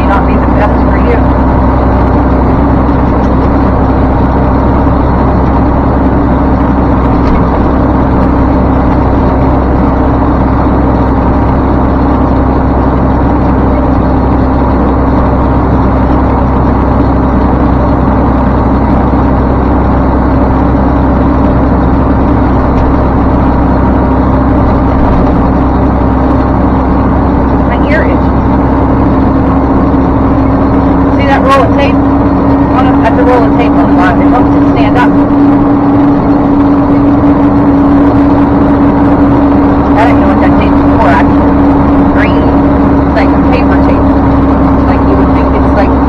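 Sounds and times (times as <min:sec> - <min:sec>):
road noise: 0:00.0 - 0:46.0
truck diesel engine in cab: 0:00.0 - 0:46.0.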